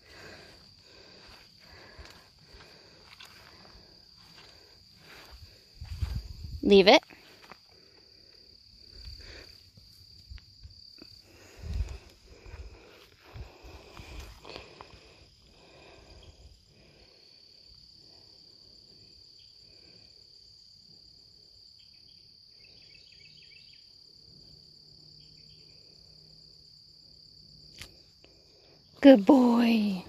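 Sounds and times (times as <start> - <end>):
insects trilling: 0.0 - 30.0
quick insect chirps: 0.0 - 30.0.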